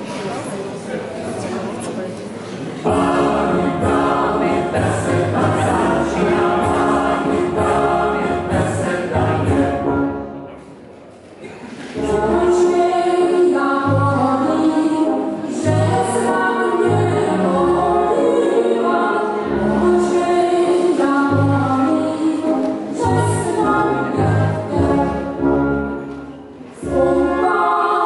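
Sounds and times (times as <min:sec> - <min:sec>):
group singing folk song: 0:02.8 - 0:10.3, 0:11.9 - 0:28.0.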